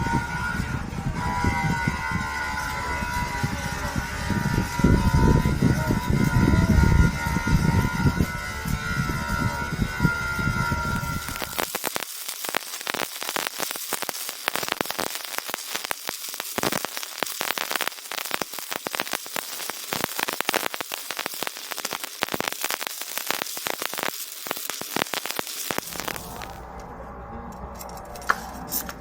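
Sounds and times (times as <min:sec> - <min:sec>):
solder sizzling and crackling: 0:01.7 - 0:26.6.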